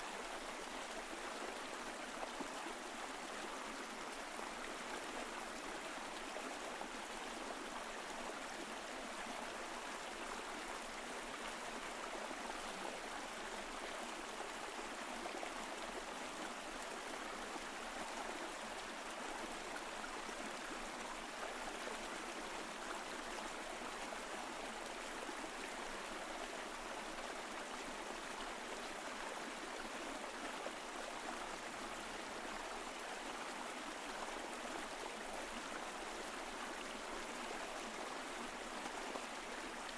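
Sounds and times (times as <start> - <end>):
stream flowing over rocks: 0.1 - 39.9.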